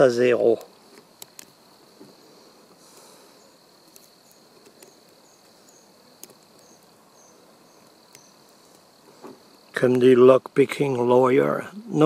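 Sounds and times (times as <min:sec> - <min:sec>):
insect-like chirping: 0:00.0 - 0:12.0.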